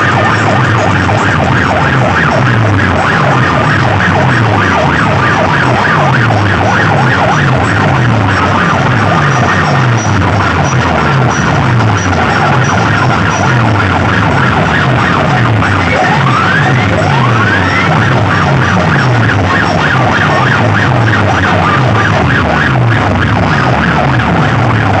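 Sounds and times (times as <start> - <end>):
falling bass pulse: 0.0 - 25.0
warbling electronic siren tone: 0.0 - 25.0.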